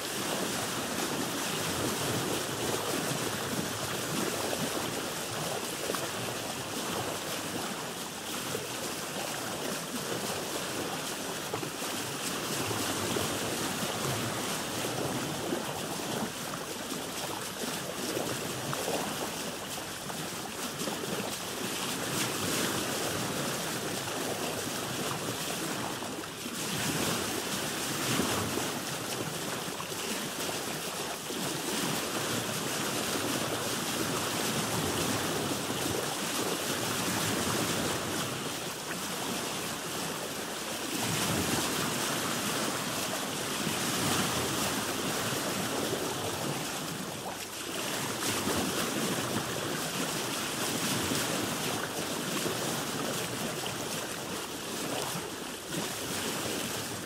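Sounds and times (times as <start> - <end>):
ocean waves washing around boat: 0.0 - 57.0
wind: 0.0 - 57.0.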